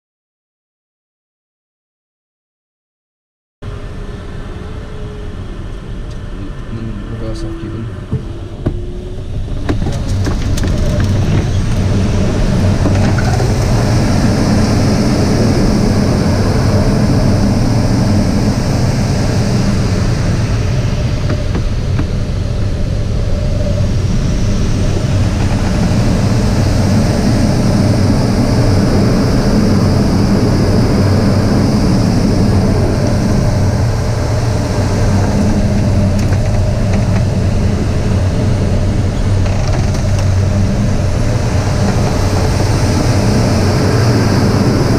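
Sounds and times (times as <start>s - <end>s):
airflow rushing over canopy: 3.7s - 39.4s, 40.1s - 44.9s.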